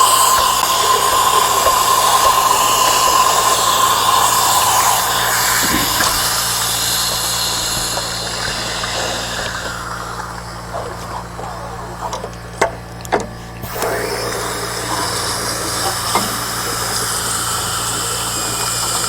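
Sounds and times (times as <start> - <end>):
compressed air bubbling through liquid: 0.0 - 19.0
faint steady whine: 0.0 - 19.0.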